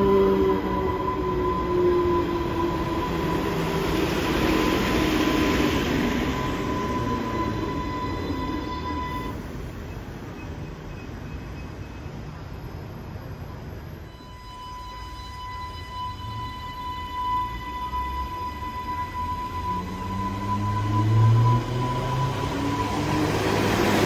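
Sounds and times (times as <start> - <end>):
steady high whine: 0.0 - 24.0
train rumble and whine: 0.0 - 24.0.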